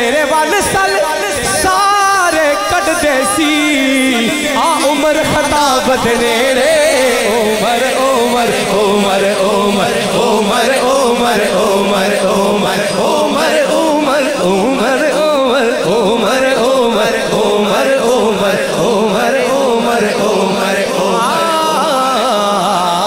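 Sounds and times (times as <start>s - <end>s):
man singing into a microphone: 0.0s - 23.0s
low drone: 3.4s - 23.0s.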